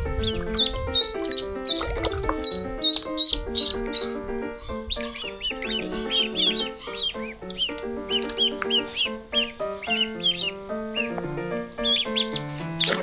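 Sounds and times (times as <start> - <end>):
background music: 0.0 - 13.0
ducklings peeping: 0.0 - 13.0.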